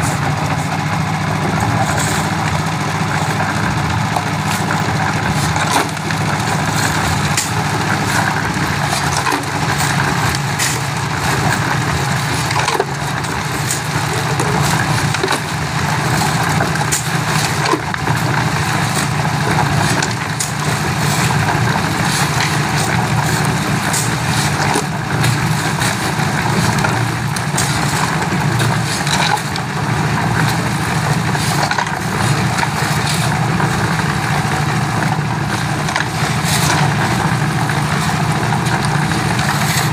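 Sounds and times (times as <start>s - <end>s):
concrete churning in drum: 0.0s - 39.9s
concrete mixer engine droning: 0.0s - 39.9s
shovel scraping gravel: 1.6s - 3.6s, 4.4s - 34.4s, 35.0s - 39.9s.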